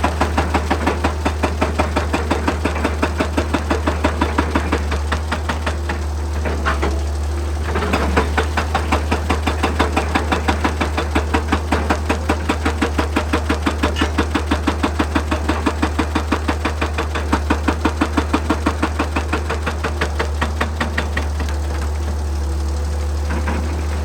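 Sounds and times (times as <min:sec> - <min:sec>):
excavator engine hum: 0:00.0 - 0:24.0
hydraulic breaker hammering rock: 0:00.0 - 0:24.0.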